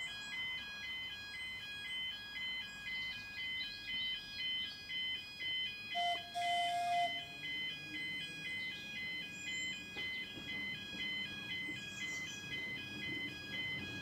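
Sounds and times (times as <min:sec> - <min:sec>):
steady lower alarm note: 0:00.0 - 0:14.0
two-tone crossing alarm: 0:00.0 - 0:14.0.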